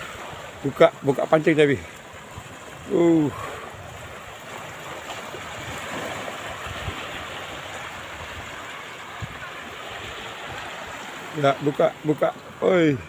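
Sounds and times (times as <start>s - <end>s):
sea surf breaking on shore: 0.0s - 13.0s.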